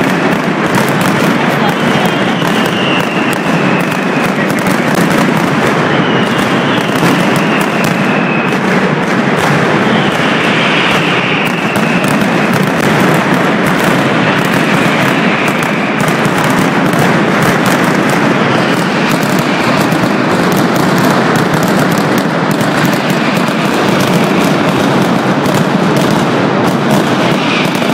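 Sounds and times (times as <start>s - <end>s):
firecrackers going off rapidly: 0.0s - 27.9s.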